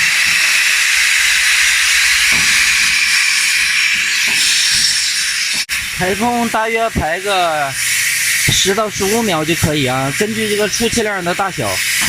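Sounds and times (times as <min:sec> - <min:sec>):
refrigerant gas hissing out: 0:00.0 - 0:12.0.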